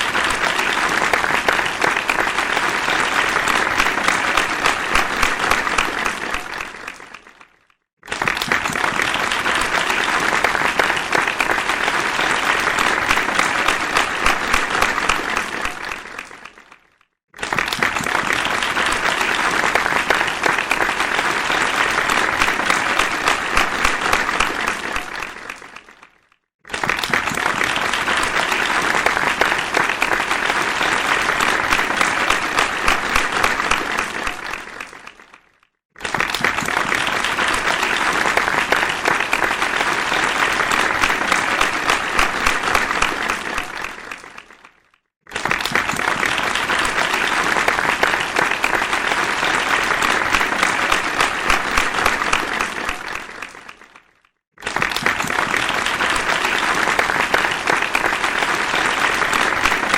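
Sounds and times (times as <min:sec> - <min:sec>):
crowd applause: 0:00.0 - 0:59.9.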